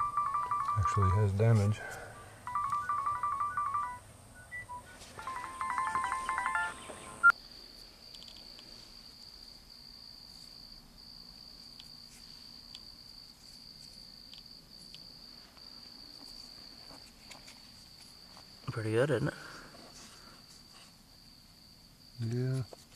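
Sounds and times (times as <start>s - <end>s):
crickets trilling: 0.0s - 22.9s.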